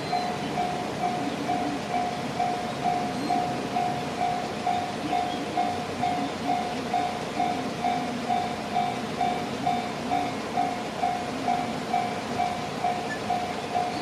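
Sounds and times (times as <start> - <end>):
electronic level crossing bell: 0.0 - 14.0.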